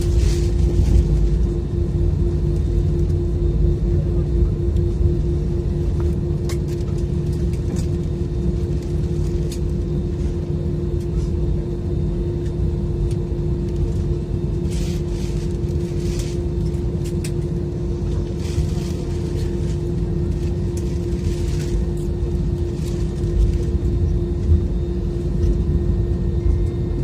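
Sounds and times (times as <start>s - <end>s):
airliner cabin rumble and hum: 0.0s - 27.0s.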